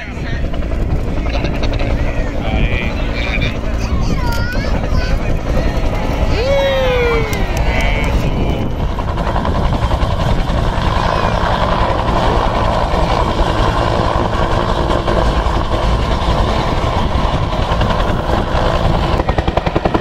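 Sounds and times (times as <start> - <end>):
helicopter flying low: 0.0 - 20.0.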